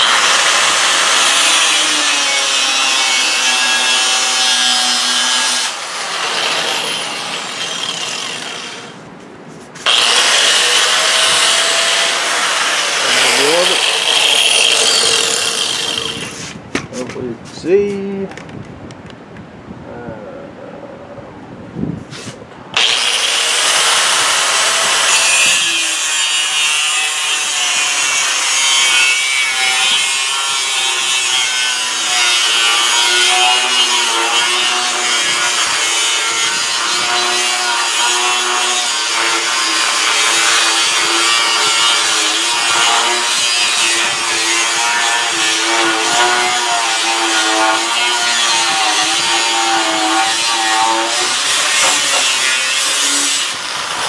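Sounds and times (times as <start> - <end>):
angle grinder cutting metal: 0.0 - 9.0, 9.8 - 16.6, 22.8 - 54.0.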